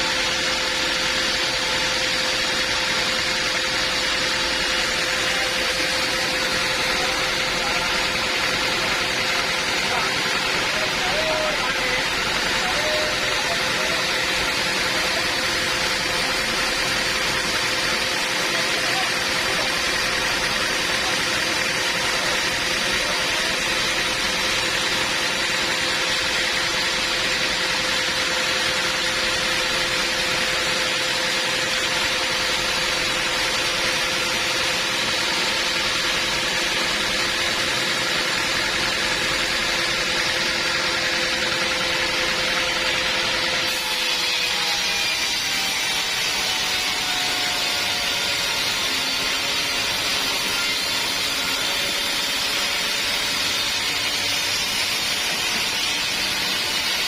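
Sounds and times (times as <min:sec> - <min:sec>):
sawmill machinery hum and whine: 0:00.0 - 0:57.0.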